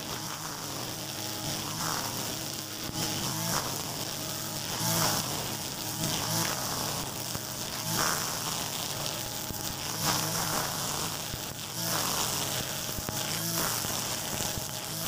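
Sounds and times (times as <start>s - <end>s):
brush cutter cutting grass: 0.0s - 15.0s.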